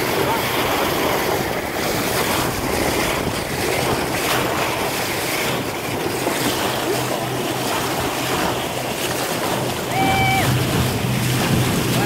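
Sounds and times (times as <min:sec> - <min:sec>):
water splashing along boat bow: 0:00.0 - 0:12.0
wind buffeting microphone: 0:00.0 - 0:12.0.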